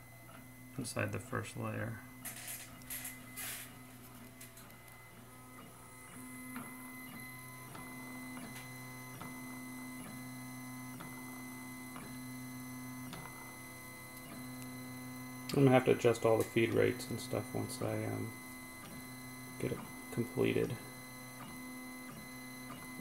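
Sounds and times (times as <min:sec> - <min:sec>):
printer stepper motors whining: 0:00.0 - 0:23.0.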